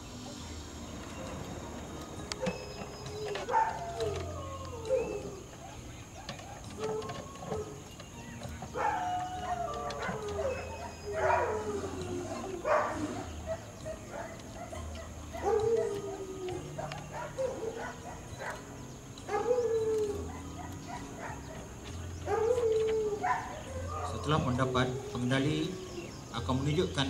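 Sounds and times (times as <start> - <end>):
dog whining yelps: 2.3 - 26.2.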